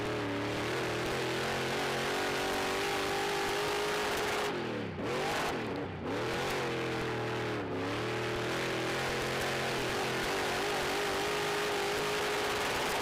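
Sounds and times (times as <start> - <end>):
race car engine revving hard: 0.0 - 13.0.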